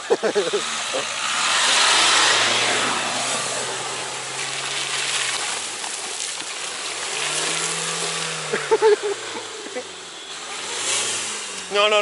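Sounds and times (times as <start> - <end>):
low engine hum: 0.0 - 11.8
car driving past on mud: 0.3 - 12.0.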